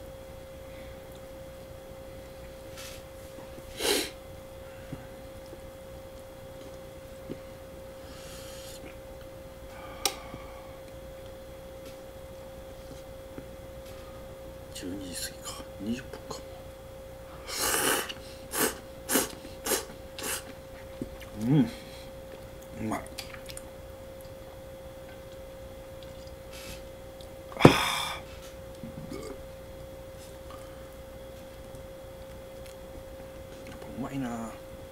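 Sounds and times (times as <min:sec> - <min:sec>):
faint high hum: 0:00.0 - 0:34.9
faint small noises: 0:00.0 - 0:34.9.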